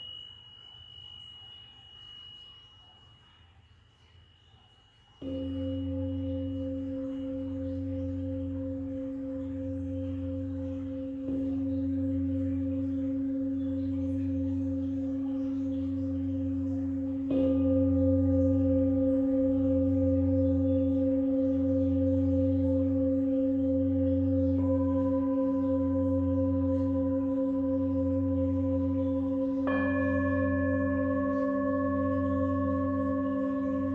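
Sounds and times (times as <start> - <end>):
singing bowl ringing: 0.0 - 33.9.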